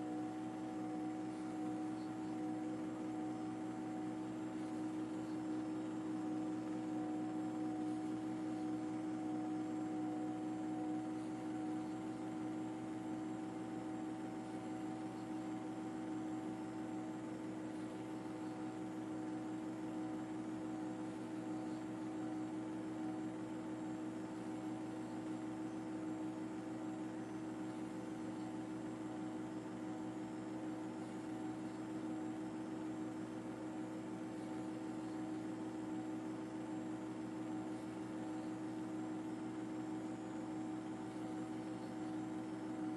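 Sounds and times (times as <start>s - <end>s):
mechanical drone with held tones: 0.0s - 42.9s.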